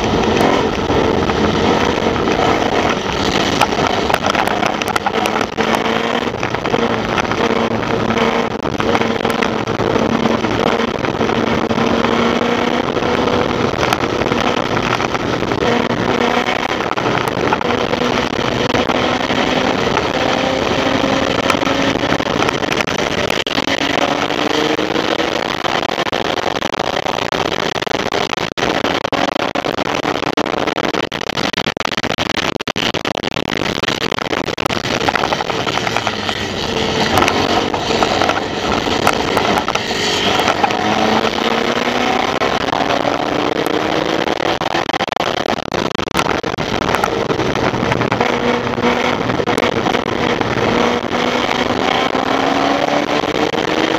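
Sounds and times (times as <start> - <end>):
race car engine running hard: 0.0 - 30.6, 34.2 - 53.9.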